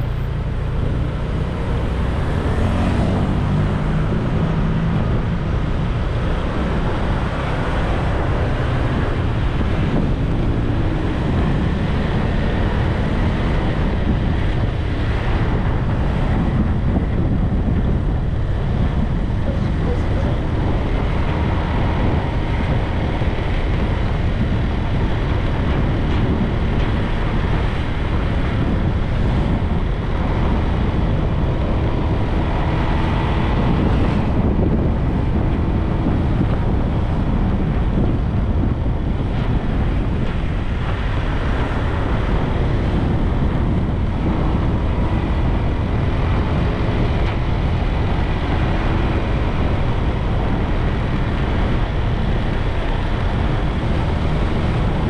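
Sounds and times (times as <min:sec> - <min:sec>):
motorbike running: 0:00.0 - 0:55.0
tyres on road: 0:00.0 - 0:55.0
wind buffeting microphone: 0:00.0 - 0:55.0.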